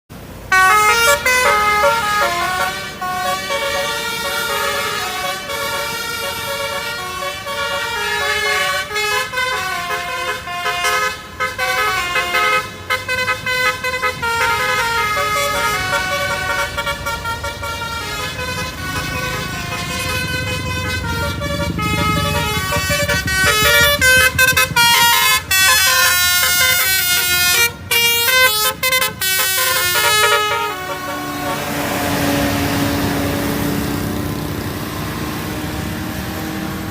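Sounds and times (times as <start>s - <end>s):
bus horn playing a melody: 0.5s - 36.9s.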